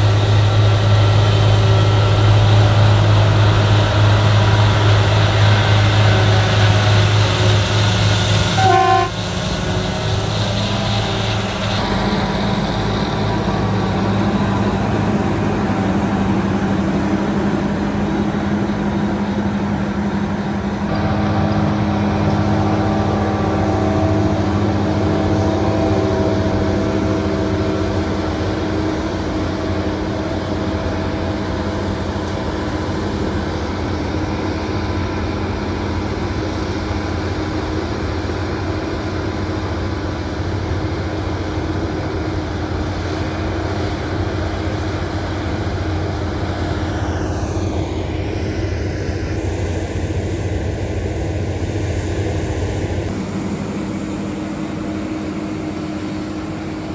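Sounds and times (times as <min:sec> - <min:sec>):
diesel engine hum: 0:00.0 - 0:56.9
mechanical drone: 0:00.0 - 0:56.9.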